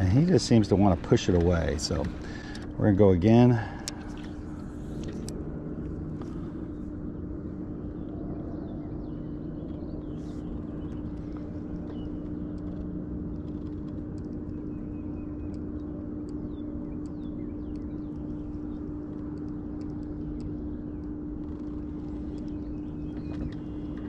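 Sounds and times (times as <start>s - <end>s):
electric motor hum: 0.0s - 24.0s
small birds chirping: 0.0s - 24.0s.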